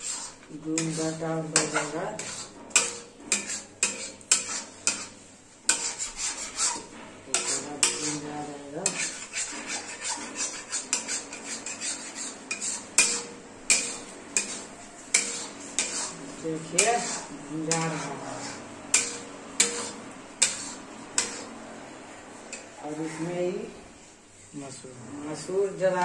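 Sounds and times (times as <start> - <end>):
metal spatula scraping a pan: 0.0 - 24.5.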